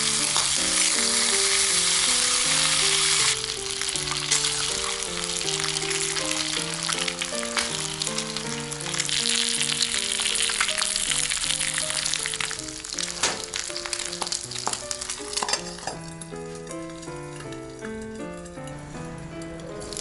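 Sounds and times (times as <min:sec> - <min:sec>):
food sizzling in a pan: 0:00.0 - 0:18.6, 0:19.6 - 0:20.0
background music with simple melody: 0:00.0 - 0:20.0.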